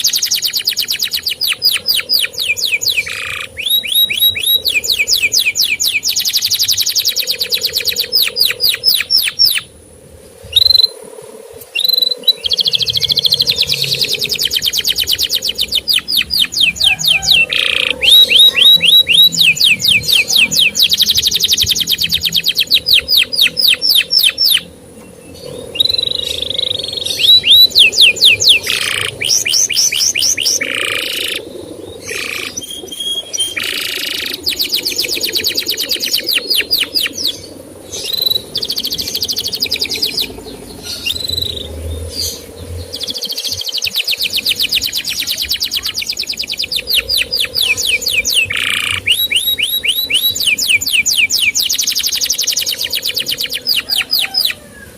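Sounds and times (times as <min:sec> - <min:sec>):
canary singing trills: 0:00.0 - 0:09.8, 0:11.6 - 0:54.9.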